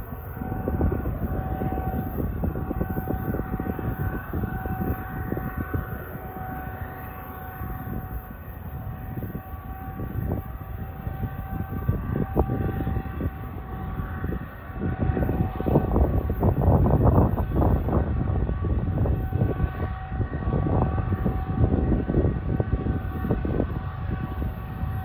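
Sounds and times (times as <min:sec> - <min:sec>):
diesel locomotive whine and rumble: 0:00.0 - 0:25.0.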